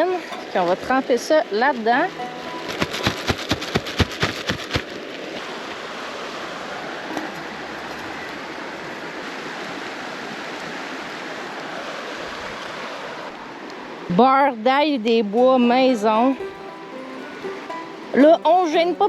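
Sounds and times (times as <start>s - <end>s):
stream water rushing: 0.0s - 14.0s, 15.1s - 19.0s.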